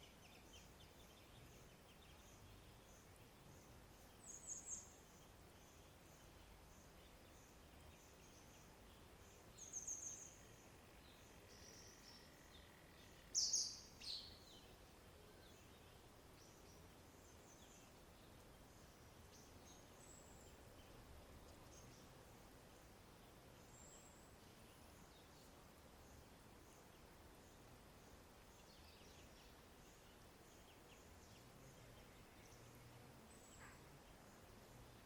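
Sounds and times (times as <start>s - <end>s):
birds chirping: 0.0s - 35.0s
faint background hiss: 0.0s - 35.0s.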